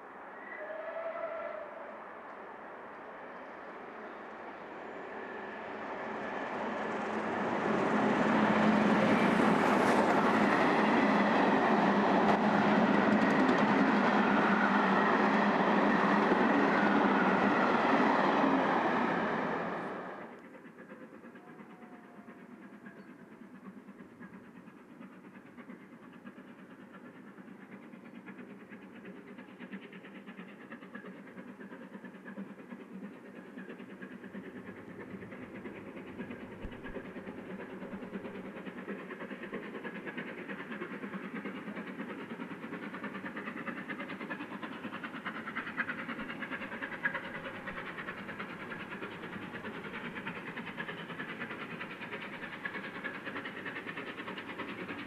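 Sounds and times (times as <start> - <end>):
steam locomotive chuffing: 3.4 - 55.0.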